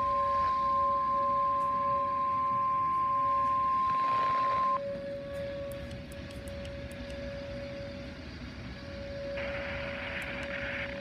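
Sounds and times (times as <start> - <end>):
outdoor warning siren: 0.0 - 11.0
weather radio alarm tone: 0.0 - 11.0.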